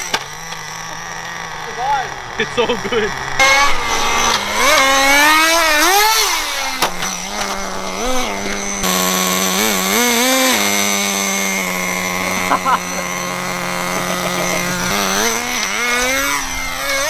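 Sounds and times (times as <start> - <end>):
small glow engine revving: 0.0 - 17.0.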